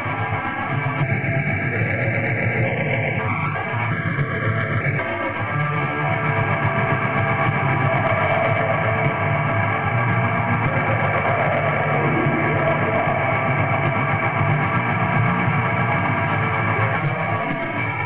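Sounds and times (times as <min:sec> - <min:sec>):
distorted bass: 0:00.0 - 0:18.0
distorted guitar: 0:00.0 - 0:18.0.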